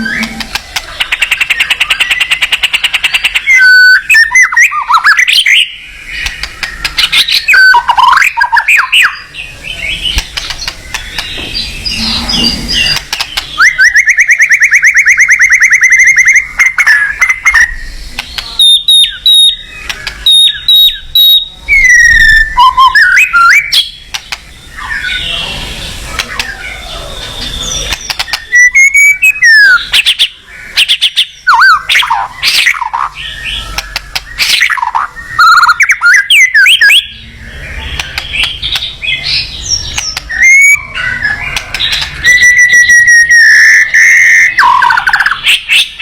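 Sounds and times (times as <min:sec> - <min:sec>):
bird trilling: 0:00.0 - 0:25.5, 0:26.1 - 0:46.0
sharp bird chips: 0:00.0 - 0:46.0
songbird singing: 0:00.0 - 0:46.0.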